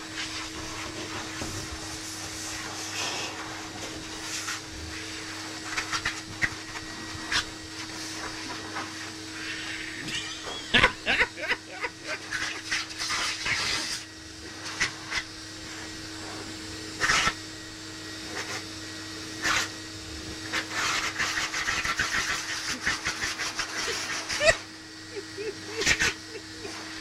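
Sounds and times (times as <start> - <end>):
pet dryer humming: 0.0 - 27.0.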